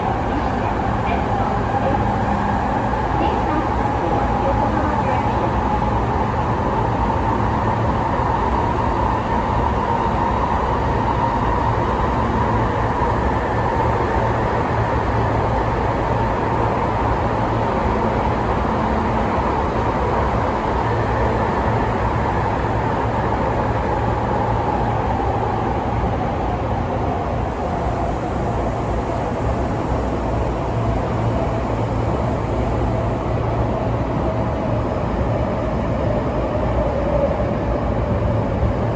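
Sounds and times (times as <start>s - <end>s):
electric train whine: 0.0s - 38.9s
train wheels rumbling on rail: 0.0s - 38.9s.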